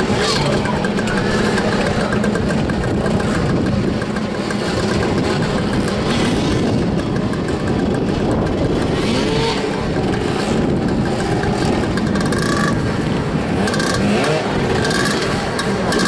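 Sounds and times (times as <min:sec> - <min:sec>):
motorcycles revving: 0:00.0 - 0:16.0.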